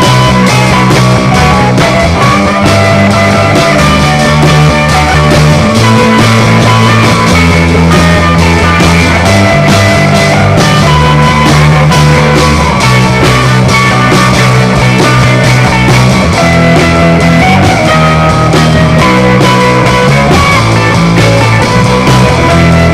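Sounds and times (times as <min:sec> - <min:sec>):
psychedelic rock music: 0:00.0 - 0:22.9.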